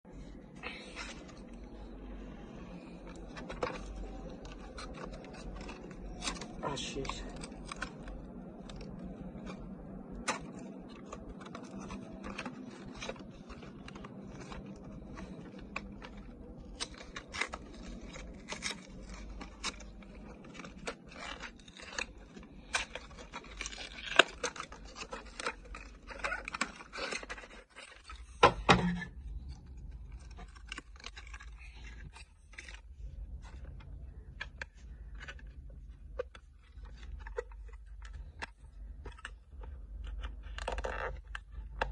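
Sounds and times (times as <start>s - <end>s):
packaging clicks and crinkles: 0.1s - 41.9s.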